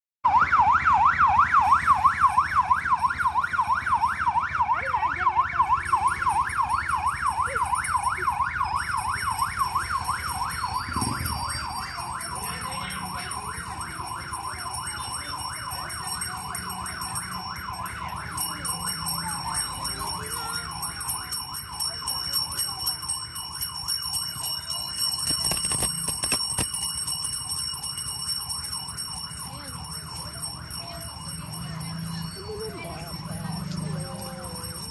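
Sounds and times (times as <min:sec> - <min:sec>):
electronic yelp siren: 0:00.2 - 0:34.9.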